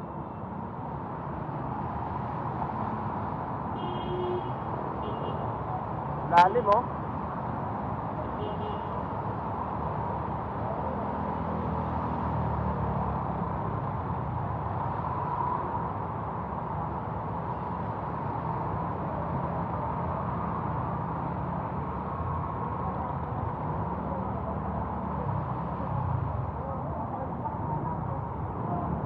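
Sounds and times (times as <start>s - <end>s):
traffic noise wash: 0.0s - 29.0s
vehicle engines rumbling: 0.0s - 29.0s.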